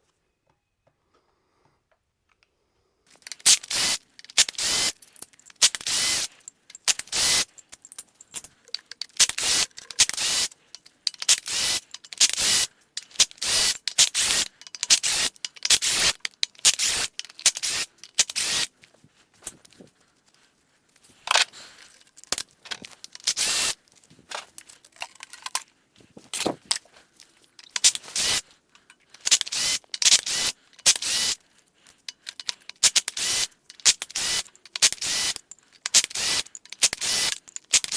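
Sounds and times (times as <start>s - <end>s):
hand tools scraping and rattling: 3.1s - 19.9s, 21.1s - 37.9s.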